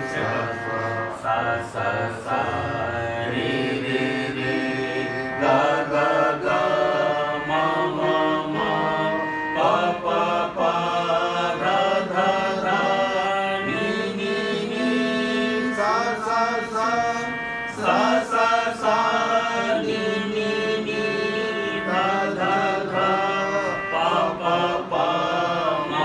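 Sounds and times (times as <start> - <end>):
electronic keyboard steady notes: 0.0 - 26.0
men singing: 0.0 - 26.0.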